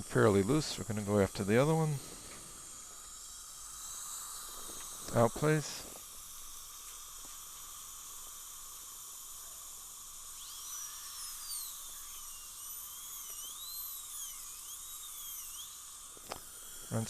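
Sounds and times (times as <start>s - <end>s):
dental drill whining: 0.0s - 17.0s
steady hiss: 0.0s - 17.0s.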